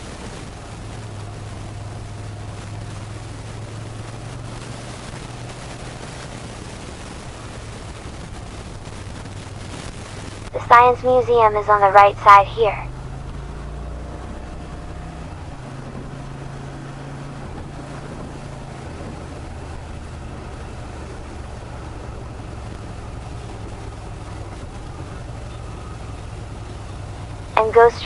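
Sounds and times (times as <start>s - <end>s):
motorcycle engine at low revs: 0.0s - 10.5s, 12.9s - 27.5s
road noise: 0.0s - 28.0s.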